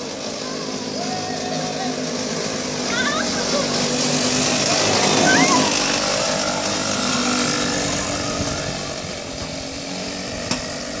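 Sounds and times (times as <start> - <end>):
go-kart engine passing: 0.0 - 11.0.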